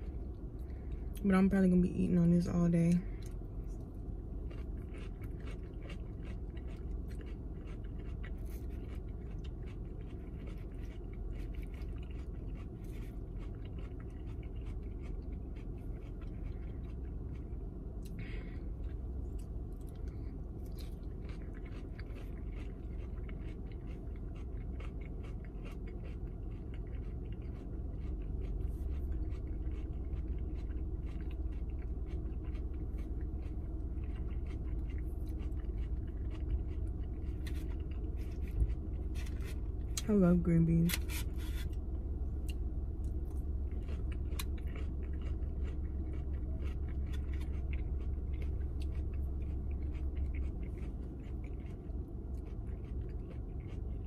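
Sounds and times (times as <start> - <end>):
low steady hum: 0.0 - 54.0
close-up chewing: 2.8 - 40.1, 40.9 - 54.0.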